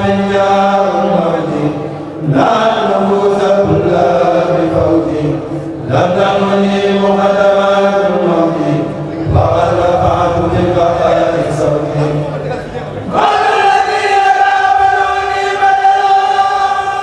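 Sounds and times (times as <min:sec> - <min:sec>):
chorus chanting: 0:00.0 - 0:17.0.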